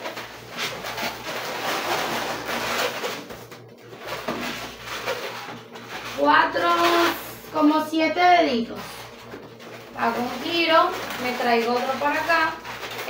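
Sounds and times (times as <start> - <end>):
balloons rubbing and creaking: 0.0 - 13.0.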